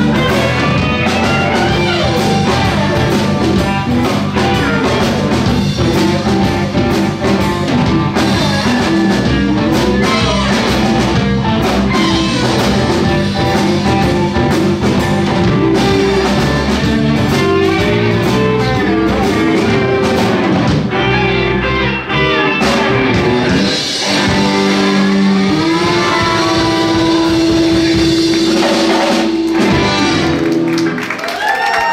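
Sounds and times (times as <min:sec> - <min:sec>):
blues band playing: 0:00.0 - 0:31.9.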